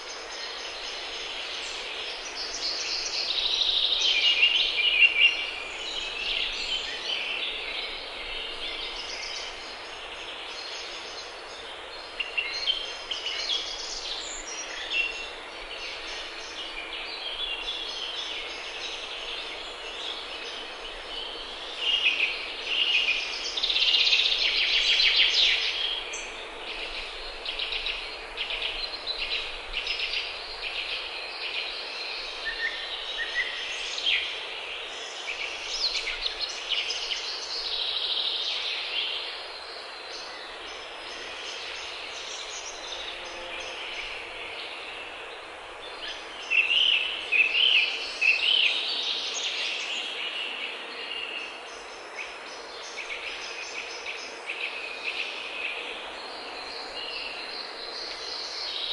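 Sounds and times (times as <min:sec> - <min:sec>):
songbirds singing and chirping: 0:00.0 - 0:58.9.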